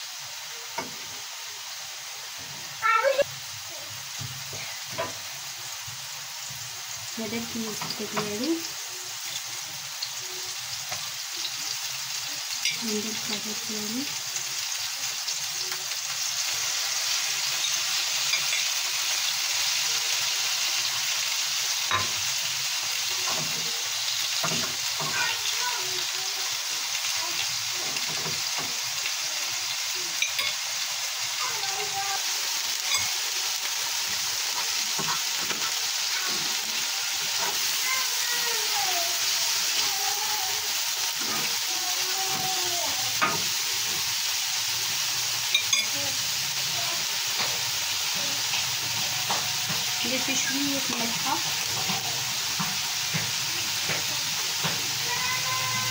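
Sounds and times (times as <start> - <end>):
oil sizzling in frying pans: 0.0 - 55.9.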